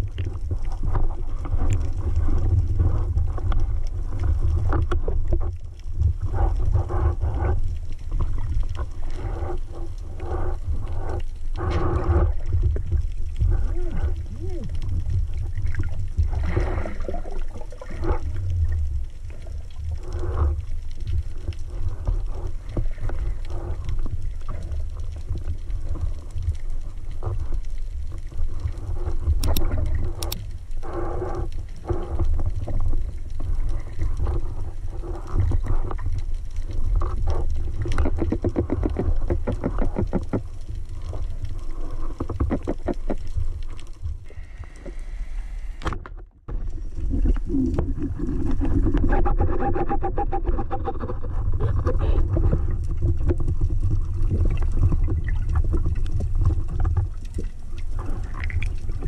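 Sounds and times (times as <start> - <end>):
underwater rumble: 0.0 - 59.0.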